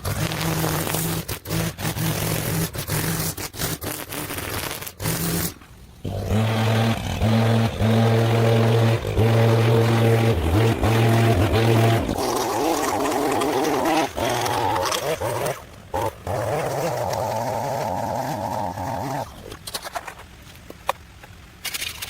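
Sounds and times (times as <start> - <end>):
small engine running: 0.0 - 20.1.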